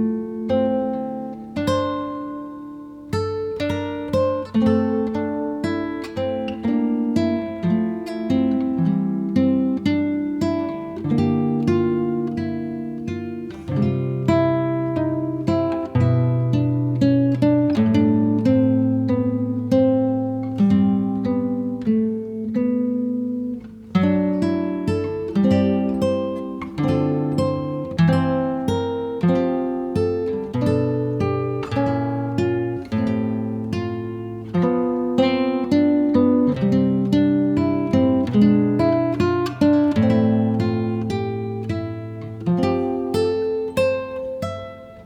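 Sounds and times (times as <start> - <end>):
plucked acoustic guitar chords: 0.0 - 45.0.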